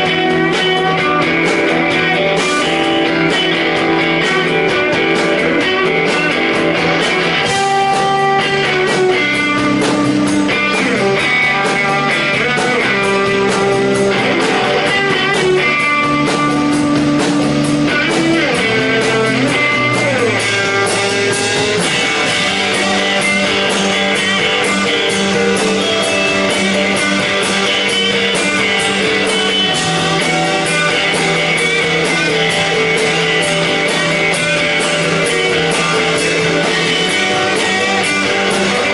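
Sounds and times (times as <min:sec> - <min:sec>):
bass: 0:00.0 - 0:38.9
electric guitars ringing: 0:00.0 - 0:38.9
steady drum beat: 0:00.0 - 0:38.9.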